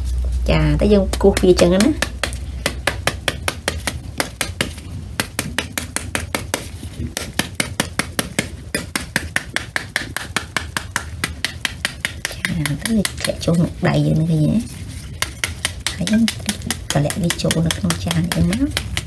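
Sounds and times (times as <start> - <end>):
metal ladle tapping pomegranate rind: 1.0 - 6.6, 7.2 - 14.2, 15.1 - 19.0.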